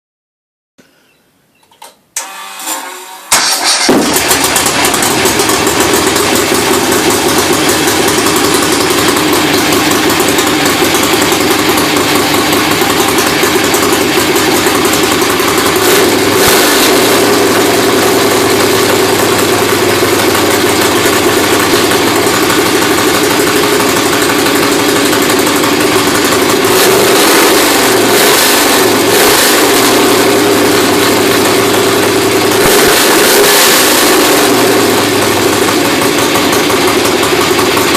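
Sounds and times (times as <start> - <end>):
engine running loud: 3.4 - 37.9.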